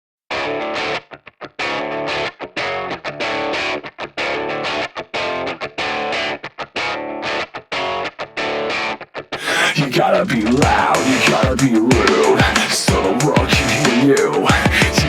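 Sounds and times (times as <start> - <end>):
distorted electric guitar riff: 0.3 - 15.0.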